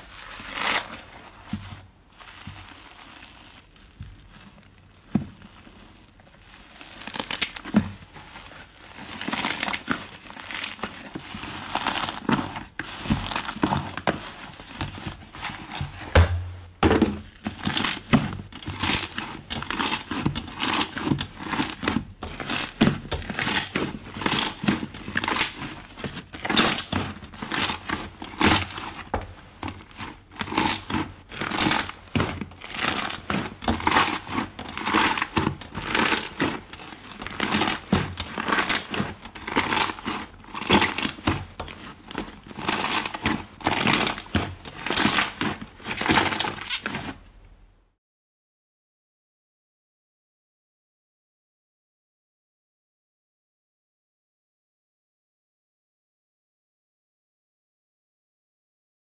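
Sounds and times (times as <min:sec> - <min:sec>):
slime squelching and crackling: 0:00.0 - 0:47.2.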